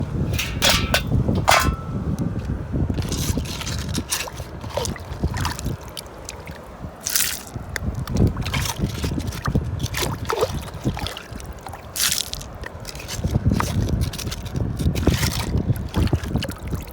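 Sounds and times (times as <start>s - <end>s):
water sloshing and gurgling: 0.0s - 16.9s
water splashes: 2.8s - 16.9s.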